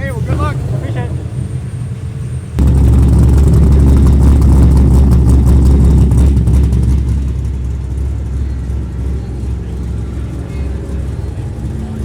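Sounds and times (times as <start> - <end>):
car engine deep rumble: 2.3 - 12.0.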